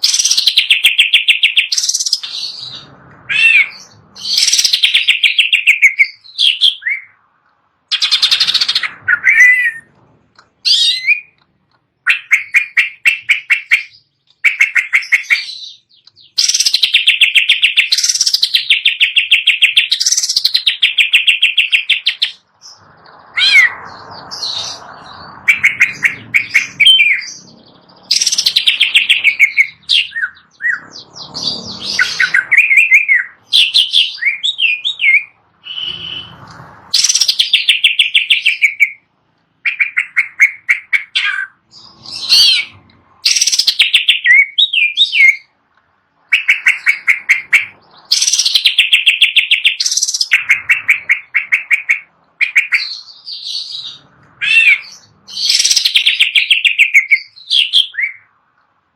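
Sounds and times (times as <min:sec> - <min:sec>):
bird singing chattering whistles: 0:00.0 - 0:07.2, 0:07.9 - 0:09.9, 0:10.6 - 0:11.4, 0:12.0 - 0:36.4, 0:37.0 - 0:39.0, 0:39.7 - 0:42.7, 0:43.3 - 0:45.5, 0:46.3 - 0:58.3.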